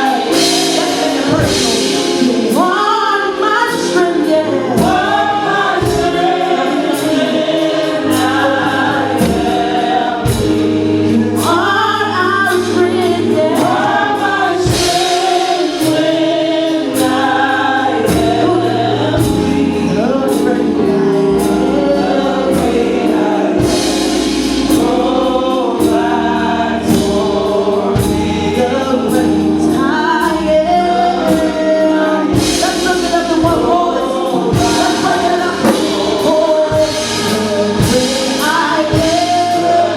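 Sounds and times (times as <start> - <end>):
band with bass and drums: 0.0 - 39.9
group singing gospel song: 0.0 - 39.9.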